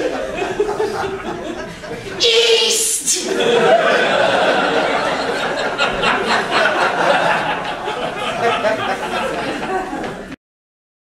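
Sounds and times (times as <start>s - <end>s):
audience laughing: 0.0s - 2.2s, 3.1s - 10.4s.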